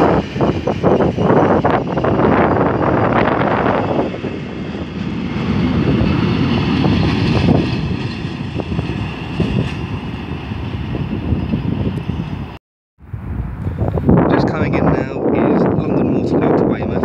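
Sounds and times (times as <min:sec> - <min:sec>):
train rail rumble: 0:00.0 - 0:17.0
wind buffeting microphone: 0:00.0 - 0:17.0.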